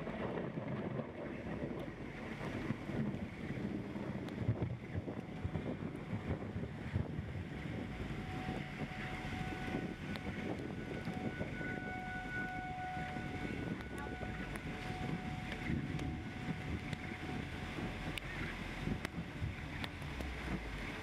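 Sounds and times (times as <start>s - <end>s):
faint high whine: 0.0s - 21.0s
wind buffeting microphone: 0.0s - 21.0s.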